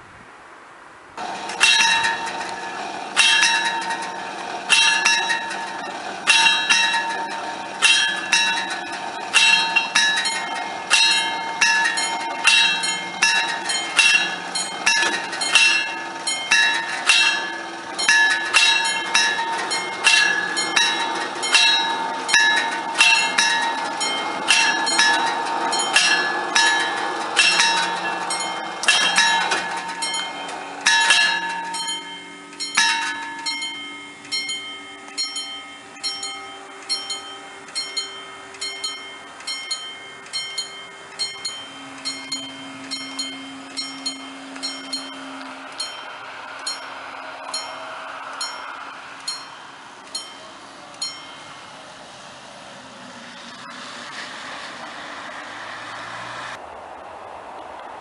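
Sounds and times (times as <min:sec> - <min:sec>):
level-crossing bells ringing: 0:01.2 - 0:54.6.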